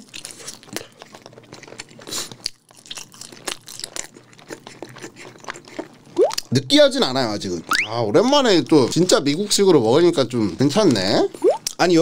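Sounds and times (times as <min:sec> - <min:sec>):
person chewing fries: 0:00.0 - 0:11.8.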